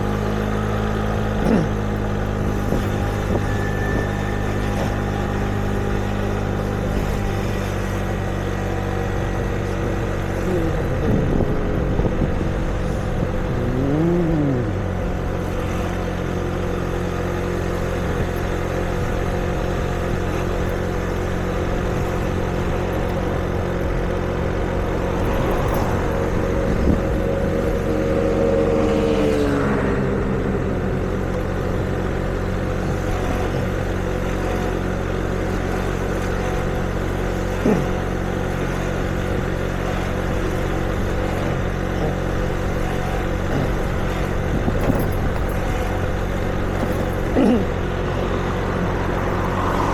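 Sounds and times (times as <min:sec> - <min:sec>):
vehicle engines running: 0:00.0 - 0:49.9.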